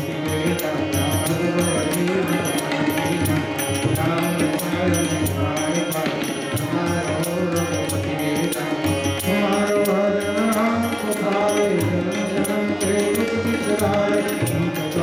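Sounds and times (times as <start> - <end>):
harmonium sustained notes: 0.0 - 15.0
man singing devotional song: 0.0 - 15.0
tabla strokes: 0.0 - 15.0.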